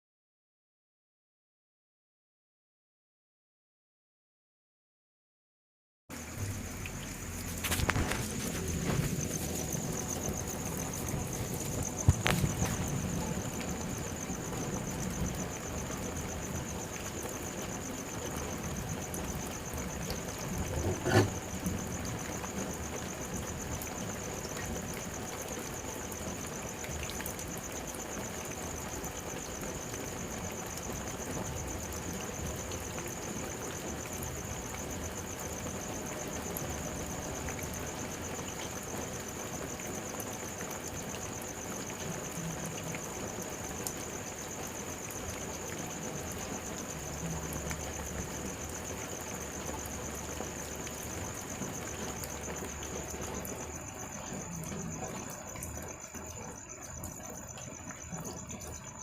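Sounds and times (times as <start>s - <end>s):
crickets trilling: 6.1s - 59.0s
light drizzle: 6.1s - 59.0s.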